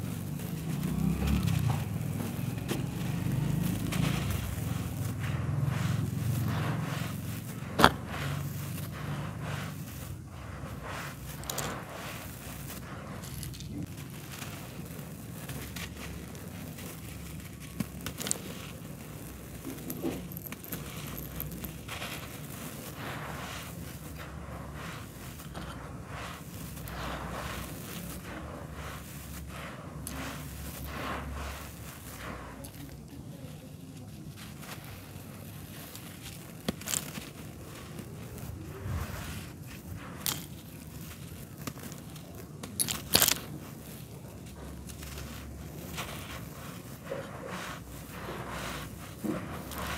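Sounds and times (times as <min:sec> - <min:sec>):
hands crumbling dry dirt: 0:00.0 - 0:49.9.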